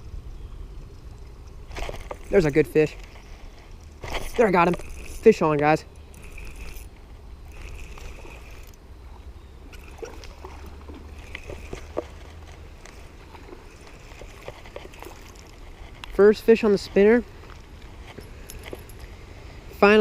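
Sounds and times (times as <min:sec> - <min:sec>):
water splashing and sloshing: 0:01.0 - 0:19.2
fishing reel whirring: 0:01.7 - 0:08.8, 0:09.7 - 0:19.1.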